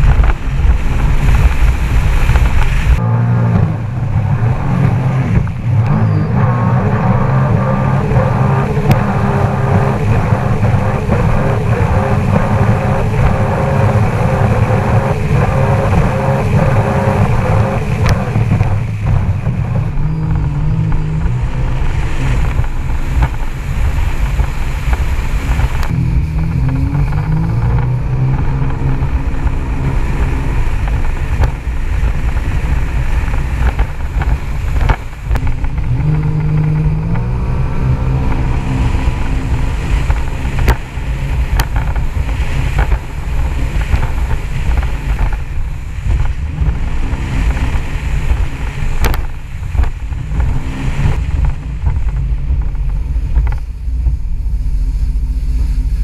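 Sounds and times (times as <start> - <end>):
jet ski engine running: 0.0 - 56.0
water rushing past: 0.0 - 56.0
wind on microphone: 0.0 - 56.0.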